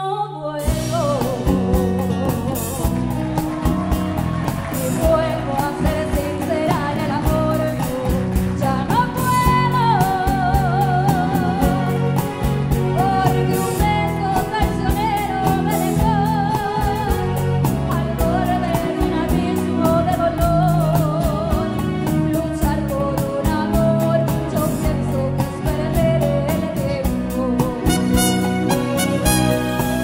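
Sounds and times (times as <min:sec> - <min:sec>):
woman singing with vibrato: 0:00.0 - 0:30.0
acoustic guitar: 0:00.6 - 0:30.0
steady drum beat: 0:00.7 - 0:22.3, 0:27.1 - 0:30.0.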